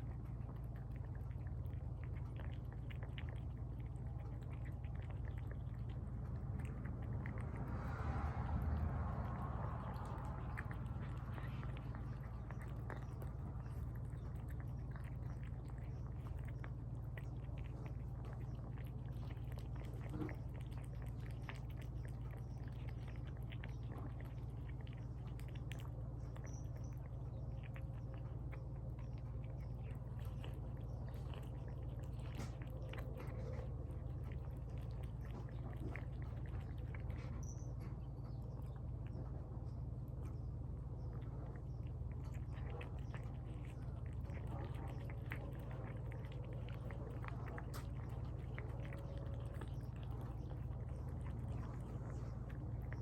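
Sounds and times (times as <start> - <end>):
cats chewing food: 0.0 - 53.0
steady low hum: 0.0 - 53.0.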